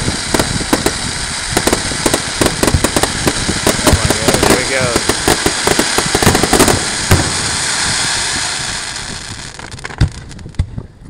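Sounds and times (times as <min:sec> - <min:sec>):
fireworks crackling hiss: 0:00.0 - 0:10.9
fireworks pops and bangs: 0:00.0 - 0:11.0.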